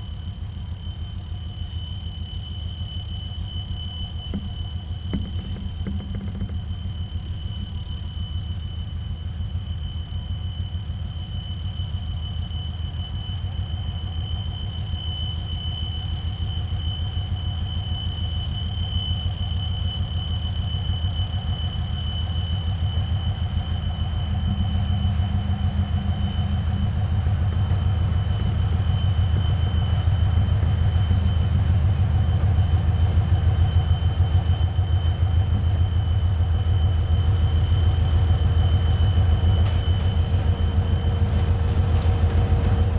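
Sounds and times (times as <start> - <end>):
faint high whine: 0.0 - 42.9
train rumbling: 1.8 - 15.2, 18.8 - 42.9.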